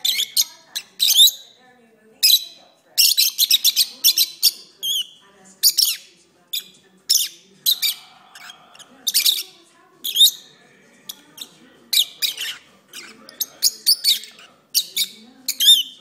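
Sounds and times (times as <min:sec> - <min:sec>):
lovebirds chirping: 0:00.0 - 0:16.0.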